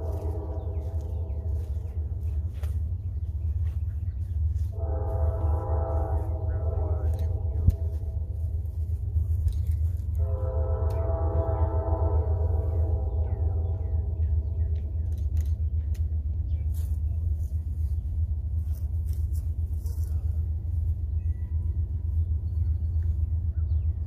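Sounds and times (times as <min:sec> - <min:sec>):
distant train horn: 0:00.0 - 0:15.7, 0:17.0 - 0:23.7
steady low rumble: 0:00.0 - 0:24.0.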